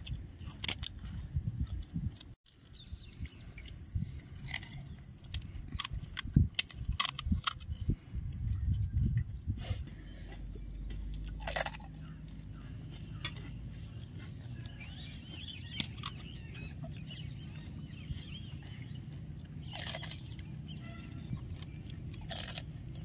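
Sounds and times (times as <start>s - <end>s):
low outdoor rumble: 0.0s - 23.0s
small birds chirping: 0.0s - 23.0s.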